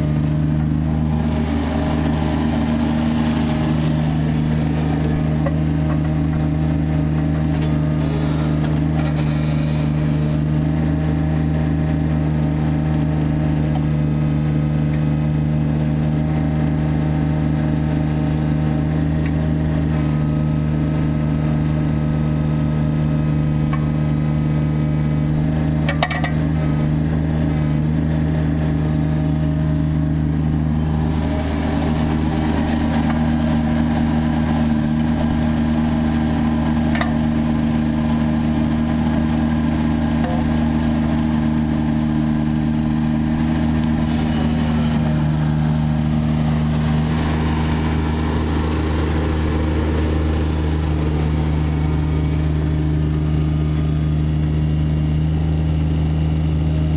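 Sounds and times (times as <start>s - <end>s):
diesel excavator engine running: 0.0s - 56.9s.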